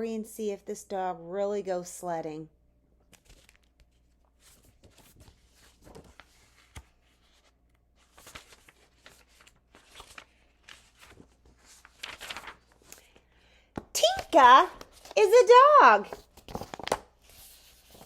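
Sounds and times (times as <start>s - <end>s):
book pages rustling: 3.1s - 18.0s.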